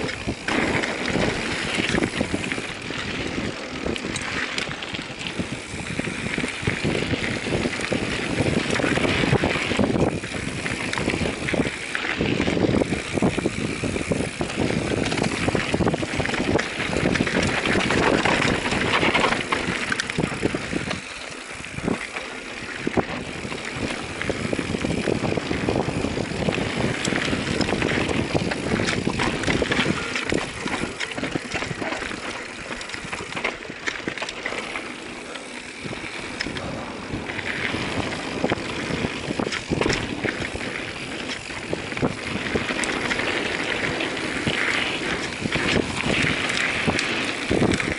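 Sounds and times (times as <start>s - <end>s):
bike knocks and rattles: 0.0s - 47.9s
bike tyres rushing on dirt: 0.0s - 47.9s.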